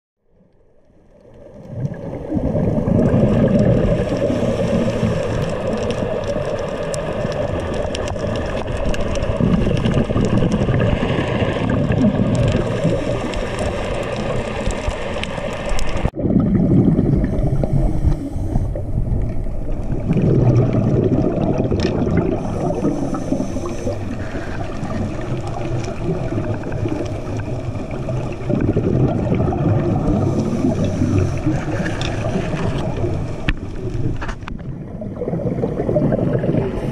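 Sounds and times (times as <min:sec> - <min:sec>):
low underwater rumble: 0:00.2 - 0:36.9
scuba bubbles gurgling: 0:00.7 - 0:36.9.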